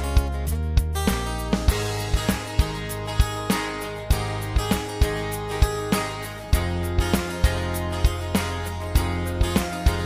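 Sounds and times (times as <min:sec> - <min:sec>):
regular beat: 0:00.0 - 0:10.0.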